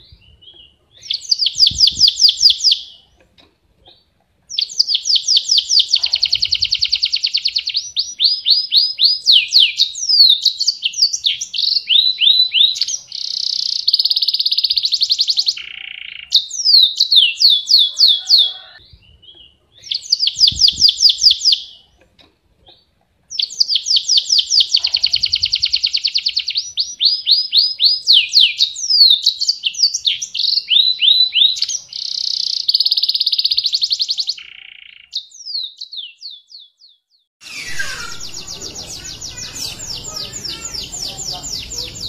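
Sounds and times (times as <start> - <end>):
canary singing trills: 0.0 - 3.2, 3.8 - 22.0, 22.6 - 42.0
second canary singing: 0.0 - 3.2, 4.5 - 22.0, 22.7 - 42.0.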